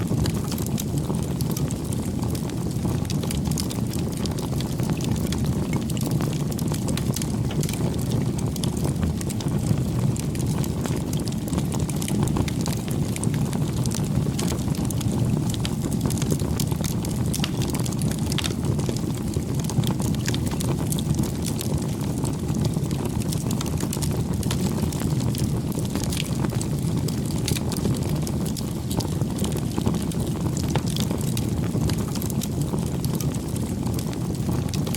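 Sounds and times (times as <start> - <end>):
burning wood crackling and popping: 0.0 - 34.9
low rumble of flames: 0.0 - 34.9.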